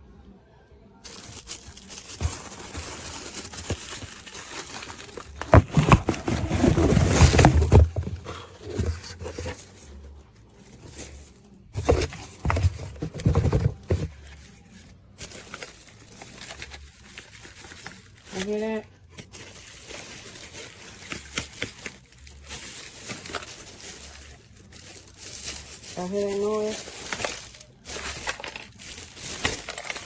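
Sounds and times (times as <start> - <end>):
cardboard and plastic packaging handled: 1.0 - 30.0.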